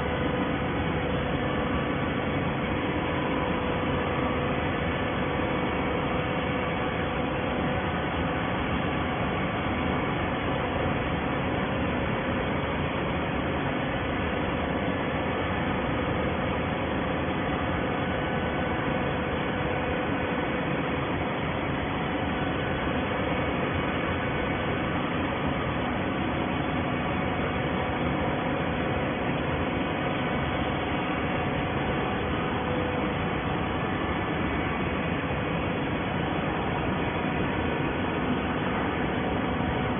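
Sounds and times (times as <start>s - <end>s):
baler mechanical hum and hiss: 0.0s - 39.9s.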